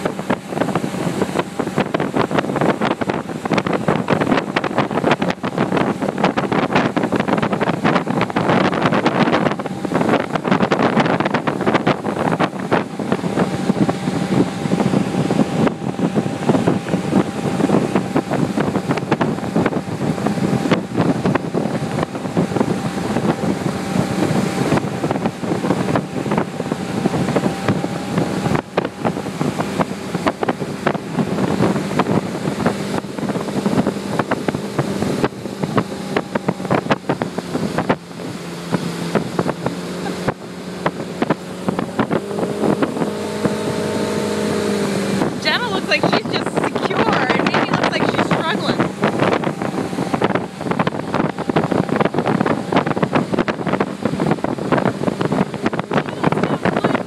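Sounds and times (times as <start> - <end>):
motorboat engine running: 0.0 - 57.0
rush of boat wake: 0.0 - 57.0
wind buffeting microphone: 0.0 - 57.0.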